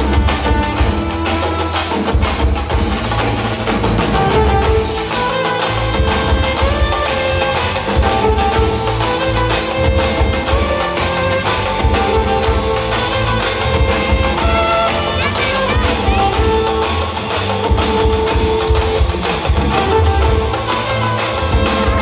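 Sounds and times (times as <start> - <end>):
violin lead with slides: 0.0 - 3.3, 3.9 - 22.0
heavy fast drumming: 0.0 - 22.0.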